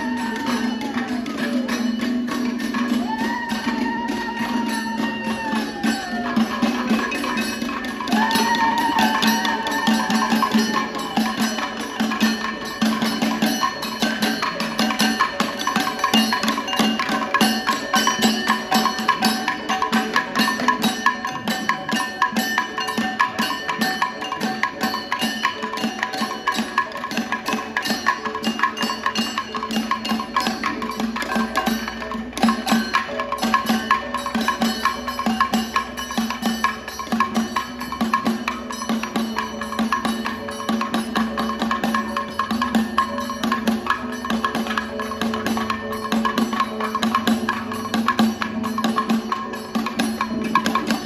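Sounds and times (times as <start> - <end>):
percussion ensemble drumming: 0.0 - 51.0.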